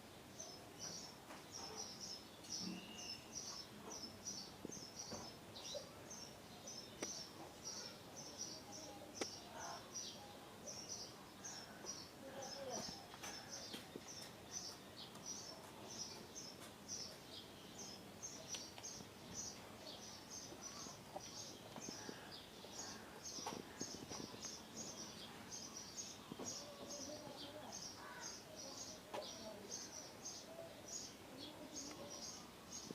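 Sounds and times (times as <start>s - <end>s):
small bird chirping: 0.3s - 32.9s.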